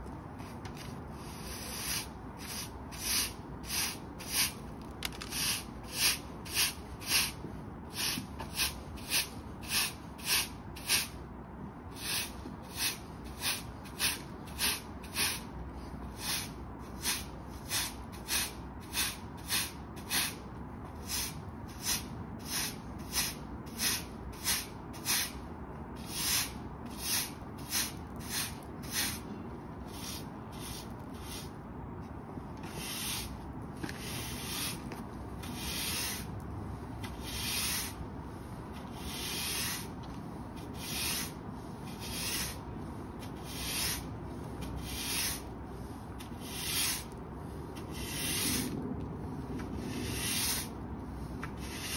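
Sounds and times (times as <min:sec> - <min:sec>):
push broom scraping concrete: 0:00.7 - 0:11.1, 0:12.0 - 0:15.4, 0:16.2 - 0:20.4, 0:21.0 - 0:25.4, 0:26.0 - 0:31.5, 0:32.6 - 0:51.9.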